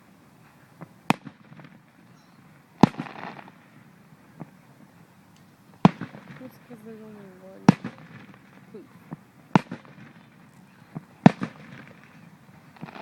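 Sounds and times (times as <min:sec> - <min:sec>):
fireworks crackling: 0:00.0 - 0:13.0
fireworks bangs: 0:00.8 - 0:13.0.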